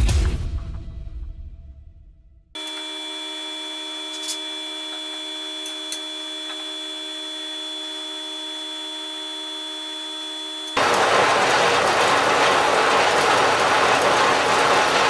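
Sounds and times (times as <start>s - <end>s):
electrical hum: 2.6s - 15.0s.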